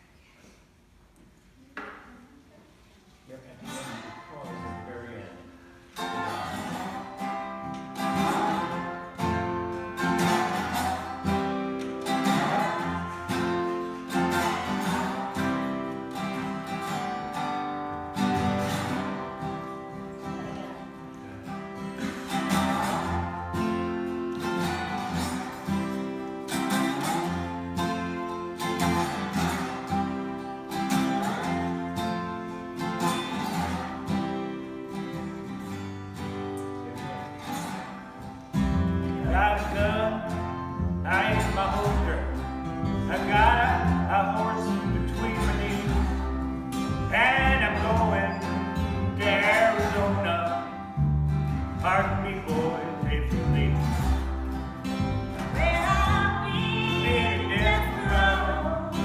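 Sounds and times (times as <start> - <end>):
acoustic guitar strumming: 3.6 - 59.0.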